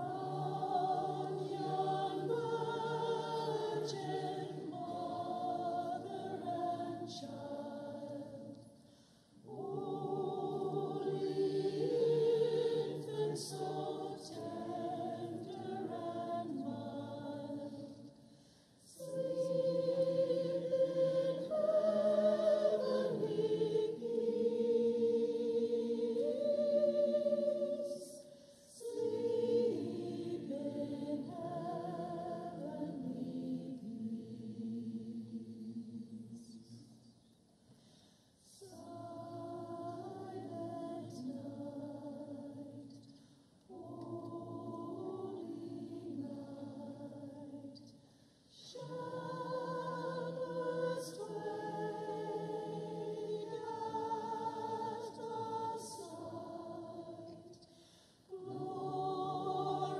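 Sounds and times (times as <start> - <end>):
church choir singing: 0.0 - 37.0, 38.5 - 59.9.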